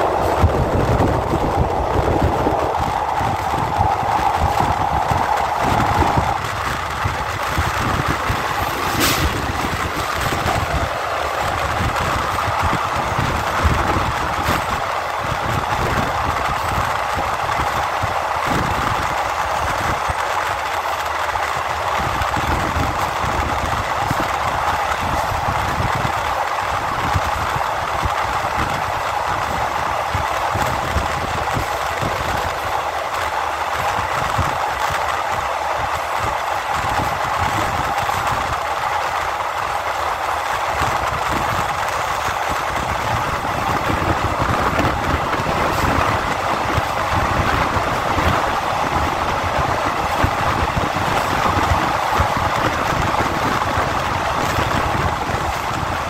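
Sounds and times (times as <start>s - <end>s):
rushing wind: 0.0s - 56.0s
train wheel noise on rails: 0.0s - 56.0s.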